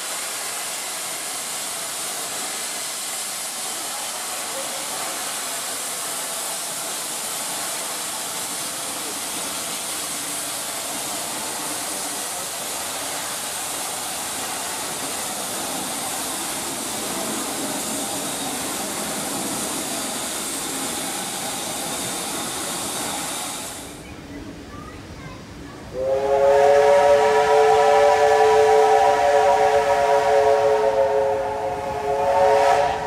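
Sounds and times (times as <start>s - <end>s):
steam locomotive hissing steam: 0.0s - 33.0s.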